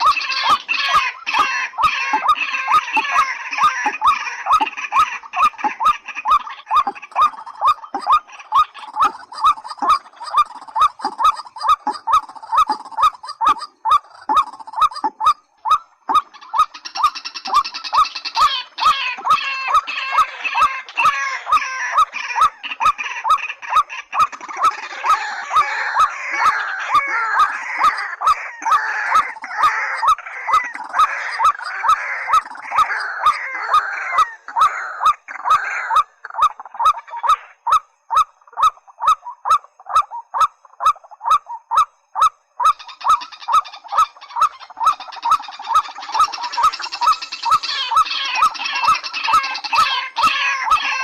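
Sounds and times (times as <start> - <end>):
chattering chorus of bird calls: 0.0 - 51.0
repeated loud bird note: 0.0 - 51.0.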